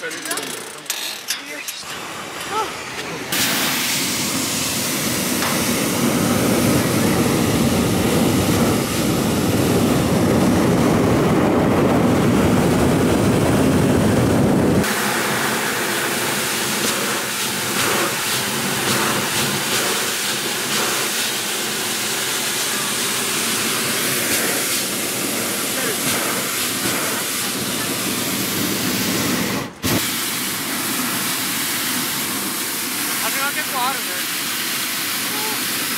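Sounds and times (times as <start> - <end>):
propane burner roaring: 0.0 - 35.9.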